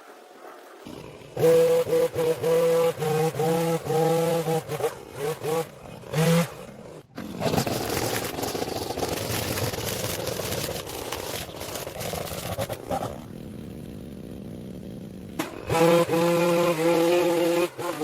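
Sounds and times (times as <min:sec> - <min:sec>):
small gas engine running: 0:00.1 - 0:18.0.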